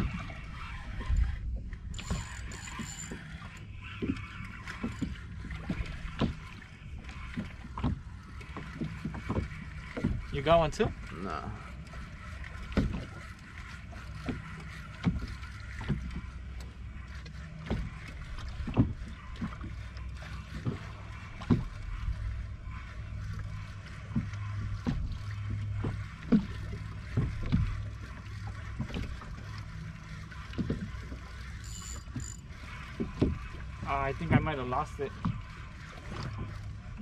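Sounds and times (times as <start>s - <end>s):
boat engine hum: 0.0s - 37.0s.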